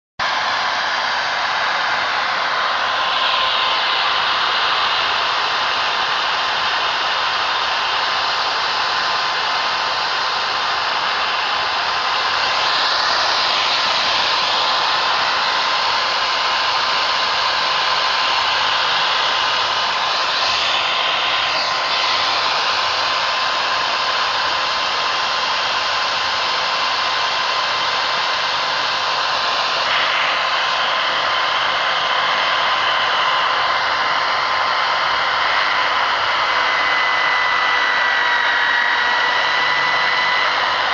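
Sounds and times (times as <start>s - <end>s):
electric drill whining: 0.2s - 40.9s.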